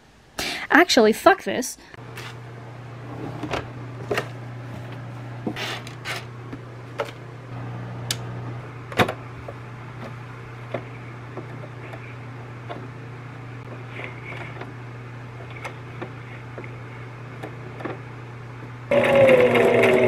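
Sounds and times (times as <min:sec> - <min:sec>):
steady low hum: 0:01.8 - 0:19.0.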